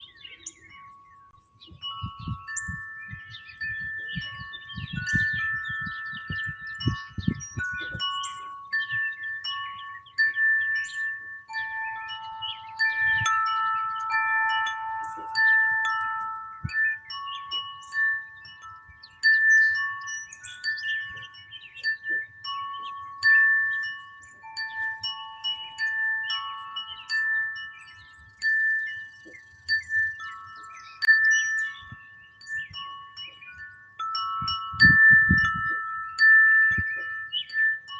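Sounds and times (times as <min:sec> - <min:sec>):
wind chimes ringing: 0:00.0 - 0:37.9.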